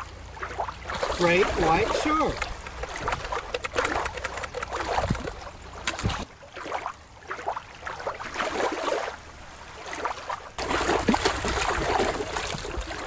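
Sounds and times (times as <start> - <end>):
river water splashing: 0.0 - 13.0
underwater water noise: 0.0 - 13.0.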